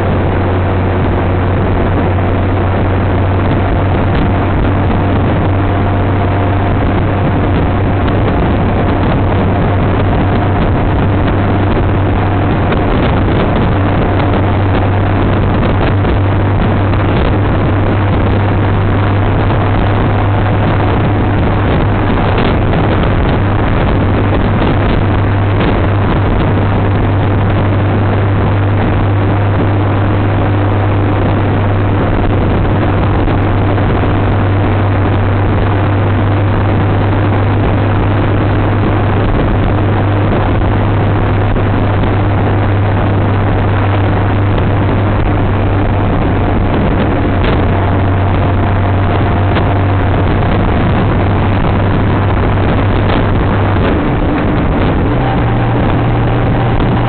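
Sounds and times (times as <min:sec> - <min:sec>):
motorcycle engine drone: 0:00.0 - 0:57.0
wind and road noise: 0:00.0 - 0:57.0.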